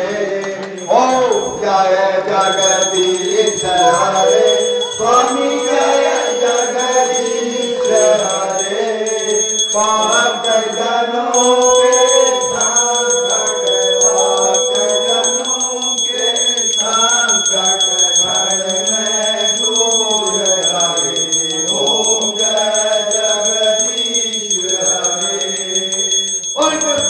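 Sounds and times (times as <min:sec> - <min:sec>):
voices singing a hymn: 0:00.0 - 0:27.0
small bell rung fast: 0:00.6 - 0:01.6, 0:02.3 - 0:27.0.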